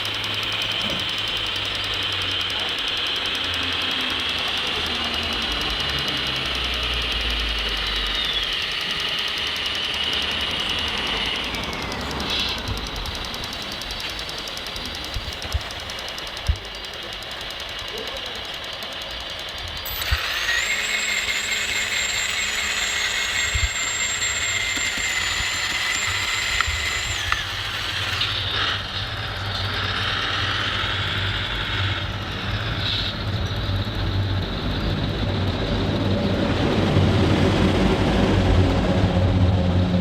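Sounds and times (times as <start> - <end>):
low engine-like hum: 0.0 - 20.5, 23.6 - 40.0
electric hydraulic pump whine: 0.0 - 40.0.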